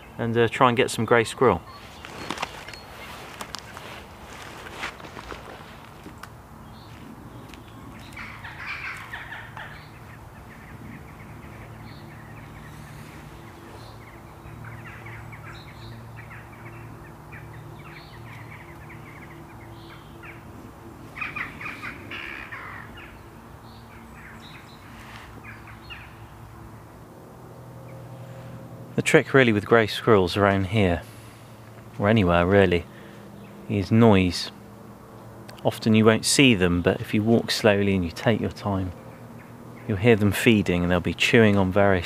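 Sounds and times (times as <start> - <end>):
birds calling in harsh bursts: 0.0 - 28.6, 29.8 - 42.0.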